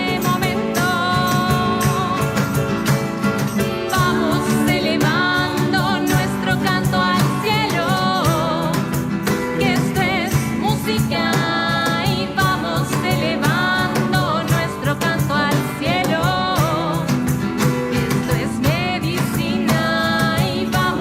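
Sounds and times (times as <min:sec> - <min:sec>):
singer with vibrato: 0:00.0 - 0:02.6, 0:03.6 - 0:17.4, 0:18.0 - 0:21.0
folk band playing: 0:00.0 - 0:21.0
percussion strikes: 0:00.0 - 0:21.0.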